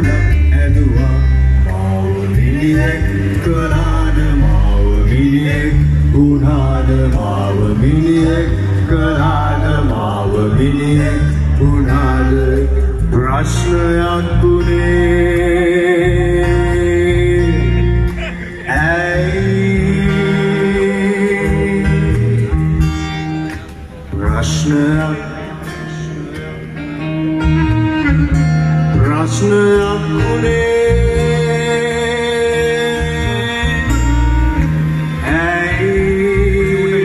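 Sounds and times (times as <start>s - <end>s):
guitar: 0.0s - 37.0s
steady bass line: 0.0s - 37.0s.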